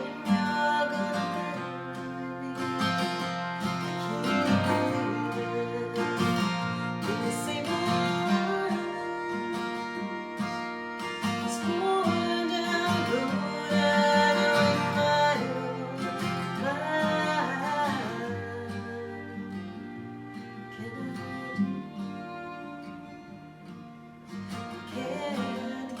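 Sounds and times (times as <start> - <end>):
acoustic guitar: 0.0 - 26.0
person singing folk song: 0.0 - 26.0.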